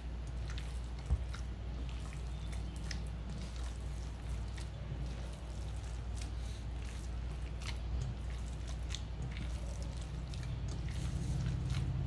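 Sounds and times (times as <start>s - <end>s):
meat mixture squelching: 0.0s - 12.0s
steady low hum: 0.0s - 12.0s.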